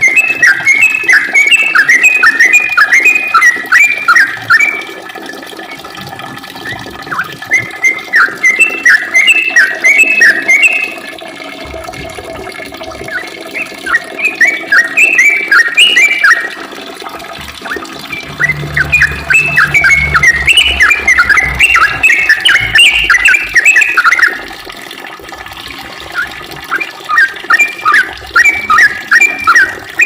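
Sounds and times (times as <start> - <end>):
bird singing bubbly whistled notes: 0.0 - 24.6, 25.8 - 30.0.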